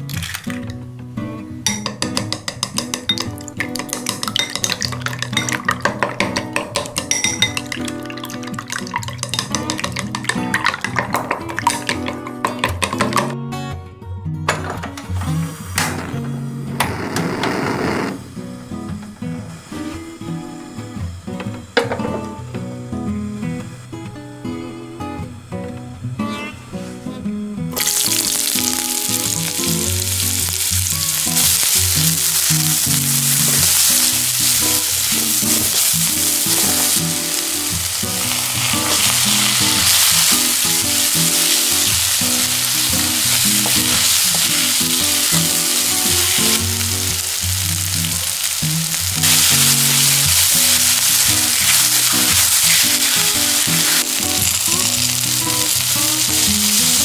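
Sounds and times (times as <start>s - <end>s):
quiet background music: 0.0s - 57.0s
food sizzling in a pan: 1.6s - 13.3s, 19.2s - 25.1s, 27.8s - 57.0s.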